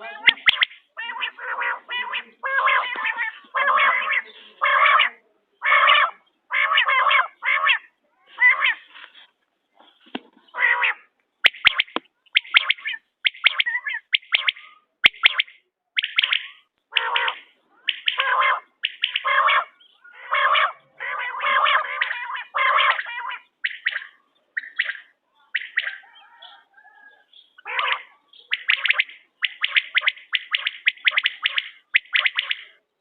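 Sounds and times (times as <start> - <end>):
quail calling: 0.0 - 9.3, 10.4 - 32.8.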